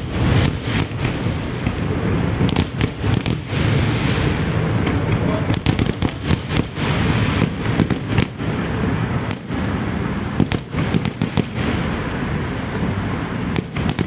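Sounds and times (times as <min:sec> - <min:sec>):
fireworks bangs and crackles: 0:00.0 - 0:14.0
low rumble of bursting shells: 0:00.0 - 0:14.0.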